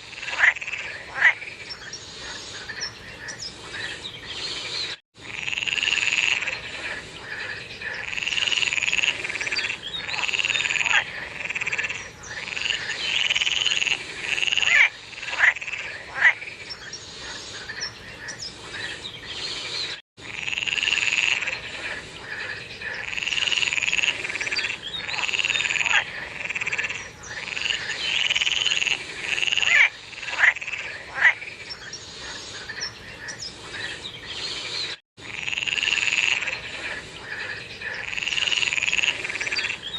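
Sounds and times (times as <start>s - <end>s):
frogs calling: 0.0s - 4.5s, 5.2s - 34.6s, 35.2s - 39.9s.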